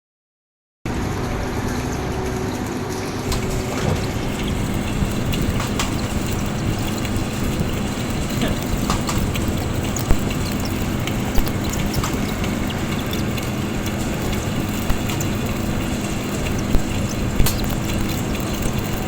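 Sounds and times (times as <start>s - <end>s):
metal lathe running and cutting: 0.9s - 19.0s.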